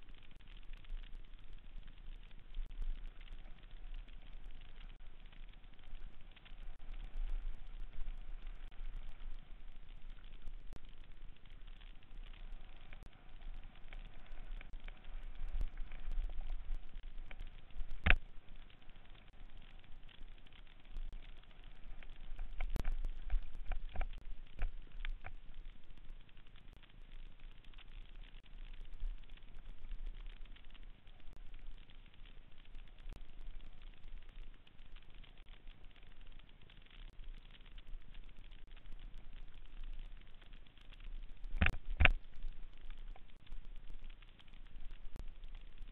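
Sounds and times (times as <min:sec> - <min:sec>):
bike tyres rattling on dirt trail: 0:00.0 - 0:45.9
low rumble: 0:00.0 - 0:45.9.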